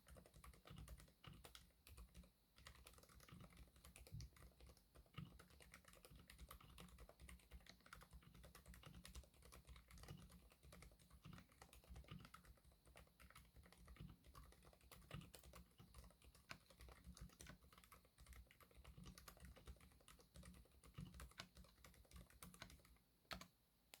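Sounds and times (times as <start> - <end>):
muted mechanical keyboard typing: 0.0 - 24.0.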